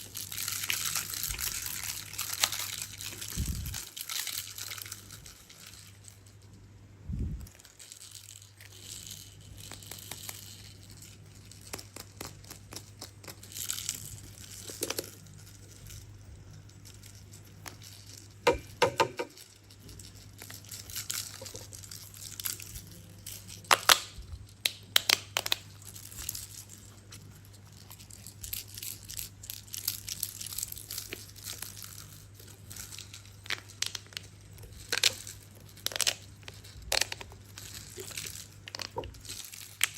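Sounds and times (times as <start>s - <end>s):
hands handling toys and packaging: 0.0s - 6.5s, 7.3s - 39.9s
faint low hum: 0.0s - 39.9s.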